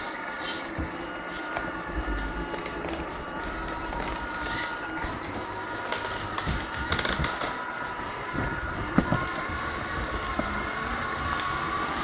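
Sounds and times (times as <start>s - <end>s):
electric motor and gearbox whine: 0.0s - 12.0s.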